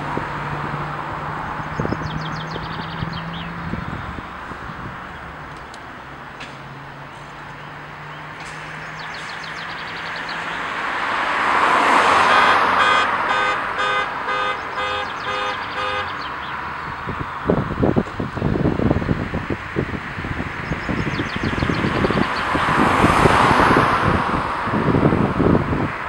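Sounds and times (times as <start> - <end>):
car passing: 0.0 - 26.0.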